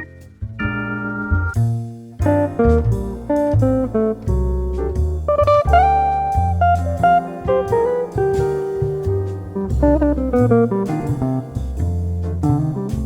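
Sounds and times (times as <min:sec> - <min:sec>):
jazz music with guitar and bass: 0:00.0 - 0:13.0.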